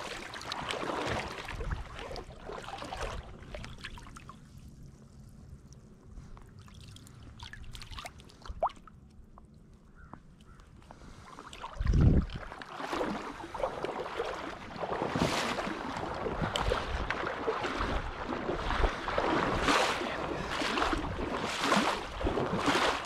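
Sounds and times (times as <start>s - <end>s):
wading through water splashing: 0.0s - 4.9s, 6.1s - 9.0s, 11.0s - 23.0s.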